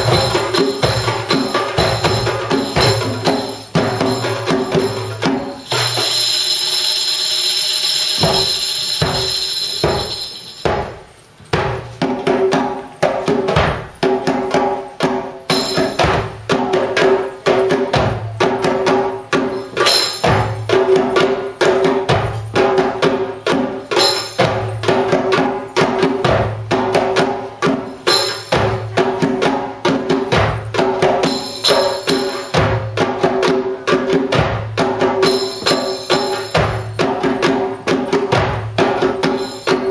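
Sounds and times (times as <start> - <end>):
hand drumming: 0.0 - 6.4, 8.1 - 39.9
frame drum jingles: 0.0 - 39.9.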